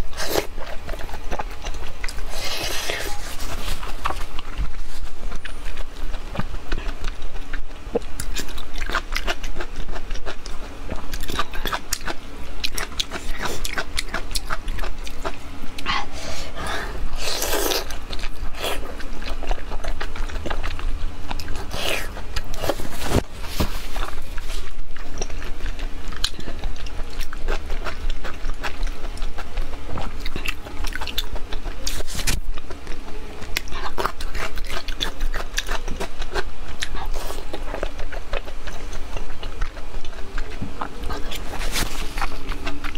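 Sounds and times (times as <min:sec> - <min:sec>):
wet chewing: 0:00.0 - 0:42.9.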